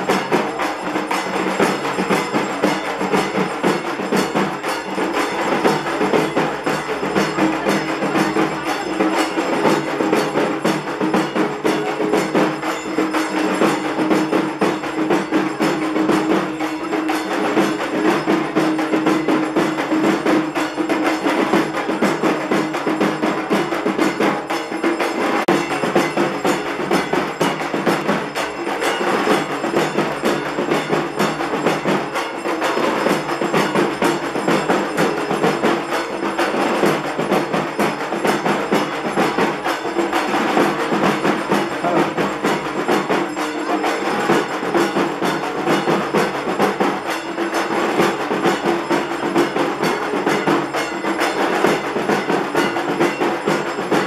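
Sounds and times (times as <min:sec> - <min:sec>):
drums beaten fast with sticks: 0:00.0 - 0:54.0
high metallic ringing: 0:00.0 - 0:54.0.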